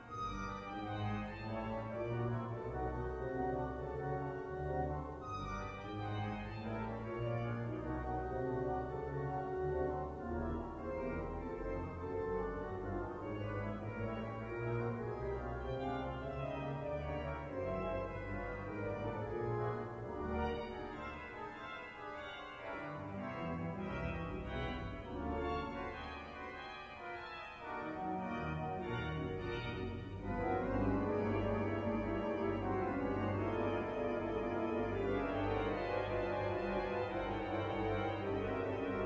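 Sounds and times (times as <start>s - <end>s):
pipe organ playing chords: 0.0s - 39.0s.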